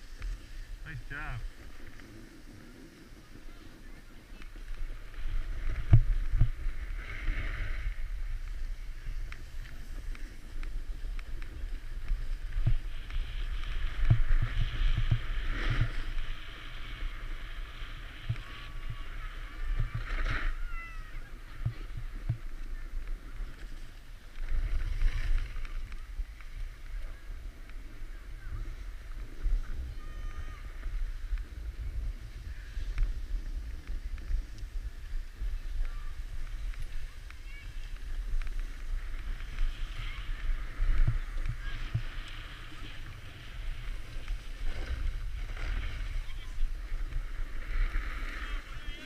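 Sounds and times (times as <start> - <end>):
skis scraping packed snow: 0.0 - 49.0.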